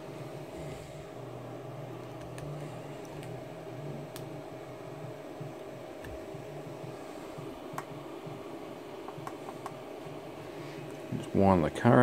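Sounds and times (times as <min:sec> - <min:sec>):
electrical hum and hiss: 0:00.0 - 0:12.0
faint whine: 0:00.0 - 0:12.0.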